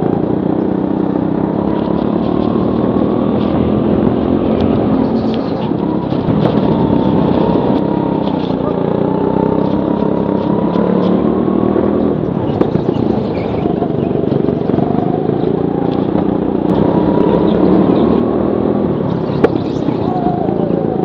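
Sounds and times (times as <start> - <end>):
go-kart engine revving: 0.0 - 21.0.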